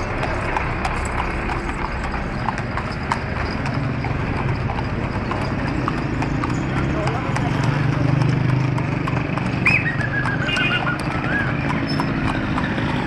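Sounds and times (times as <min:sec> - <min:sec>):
horse hooves clip-clopping on pavement: 0:00.0 - 0:13.0
motor engine running: 0:00.0 - 0:13.0.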